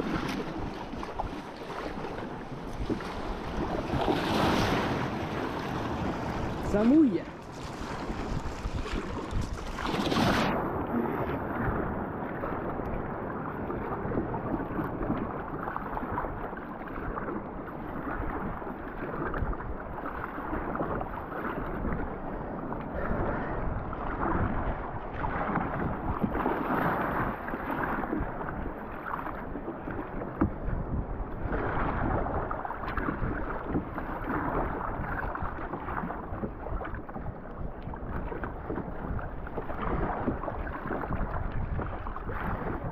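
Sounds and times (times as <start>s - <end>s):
water sloshing around kayak: 0.0s - 42.9s
wind buffeting microphone: 0.0s - 42.9s.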